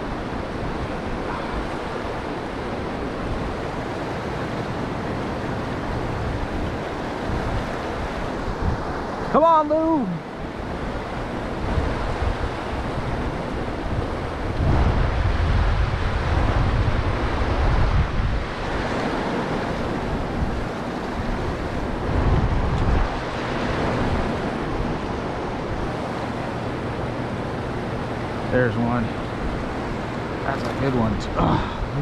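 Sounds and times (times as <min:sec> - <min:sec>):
river rushing over boulders: 0:00.0 - 0:32.0
wind buffeting microphone: 0:00.0 - 0:32.0.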